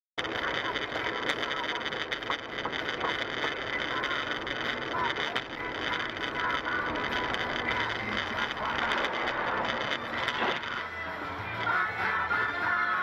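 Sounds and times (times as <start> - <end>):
faint clicks: 0.2 - 10.9
car road and engine noise: 0.2 - 12.8.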